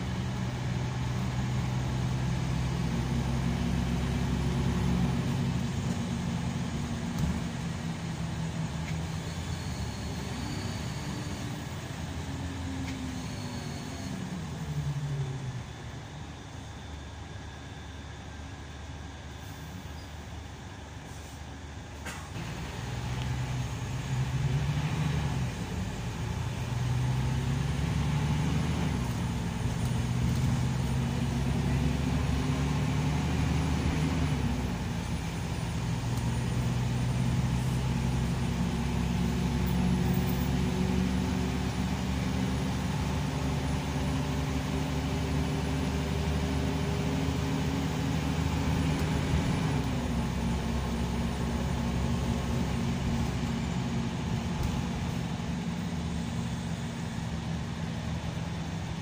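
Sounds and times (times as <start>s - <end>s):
diesel engine from inside a bus: 0.0s - 59.0s
road noise: 0.0s - 59.0s.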